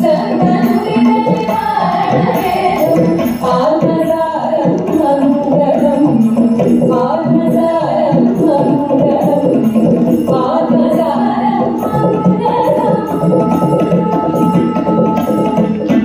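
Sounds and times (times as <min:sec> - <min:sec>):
light percussion beat: 0:00.0 - 0:16.0
woman singing: 0:00.0 - 0:16.0.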